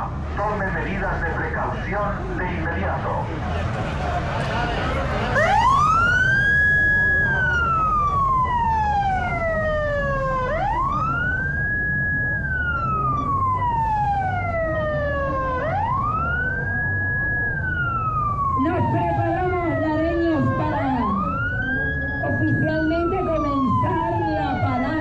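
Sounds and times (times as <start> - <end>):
siren wailing: 4.8 - 25.0.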